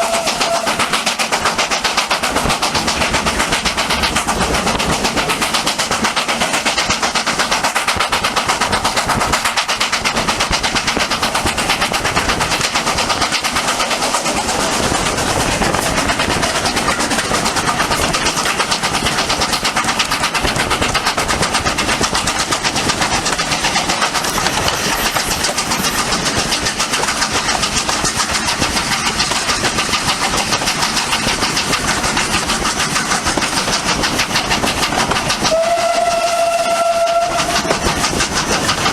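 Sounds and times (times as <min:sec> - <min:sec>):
steam locomotive exhaust beat: 0:00.0 - 0:38.9.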